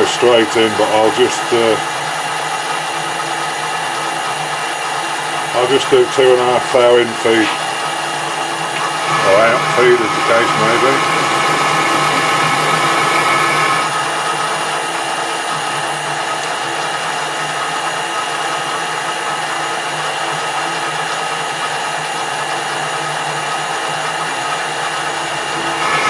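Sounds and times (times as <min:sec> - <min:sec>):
metal lathe whining and humming: 0:00.0 - 0:26.0.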